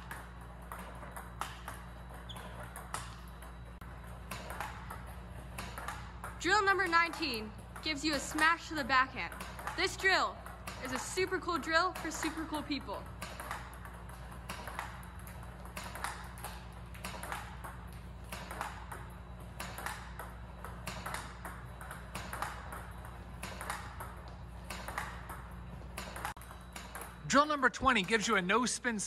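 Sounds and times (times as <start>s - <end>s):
table tennis balls clicking: 0.0s - 28.7s.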